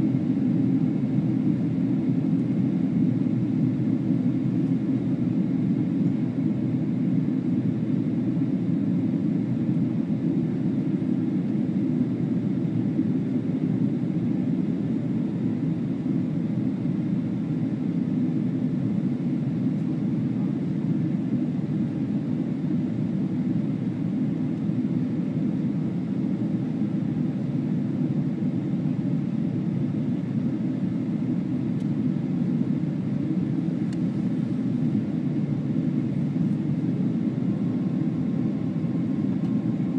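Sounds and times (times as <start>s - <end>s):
jet airliner cabin noise: 0.0s - 39.9s.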